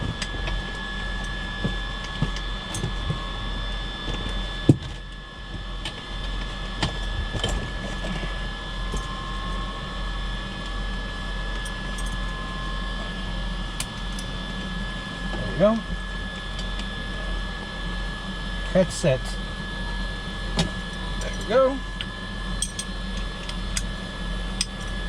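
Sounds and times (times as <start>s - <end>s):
high-pitched electrical whine: 0.0s - 25.0s
low hum: 0.0s - 25.0s.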